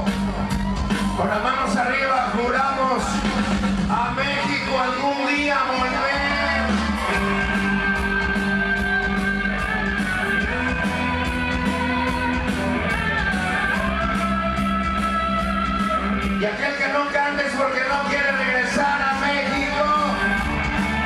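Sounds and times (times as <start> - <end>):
live band music through pa: 0.0 - 21.0.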